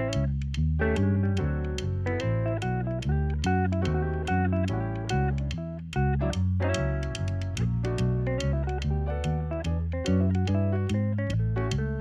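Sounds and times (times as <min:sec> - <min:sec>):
bass line: 0:00.0 - 0:12.0
plucked guitar music: 0:00.0 - 0:12.0.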